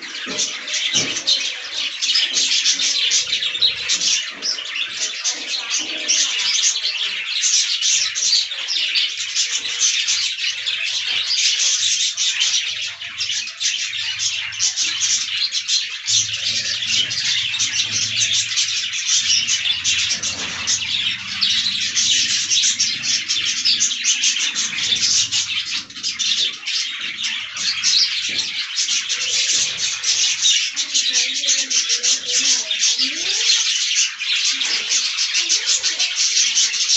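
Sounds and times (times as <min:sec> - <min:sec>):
budgerigars chattering: 0:00.0 - 0:36.9.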